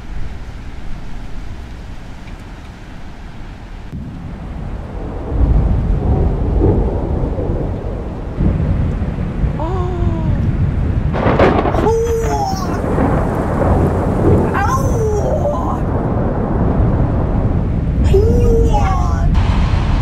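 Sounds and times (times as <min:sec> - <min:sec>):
steady rain: 0:00.0 - 0:20.0
thunder rumbling: 0:00.0 - 0:20.0
sharp thunder crack: 0:03.9 - 0:20.0.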